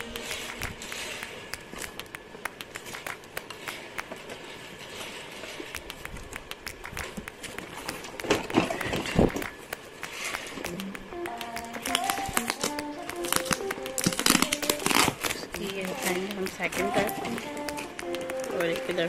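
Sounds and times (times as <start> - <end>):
small clicks: 0.0 - 19.0.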